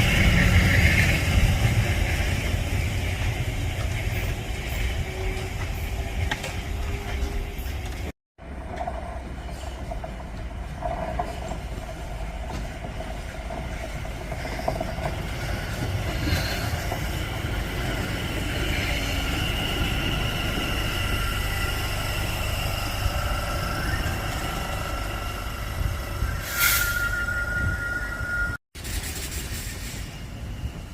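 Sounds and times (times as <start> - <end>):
train wheels rumbling on rail: 0.0 - 30.9
train whining tones: 0.0 - 30.9.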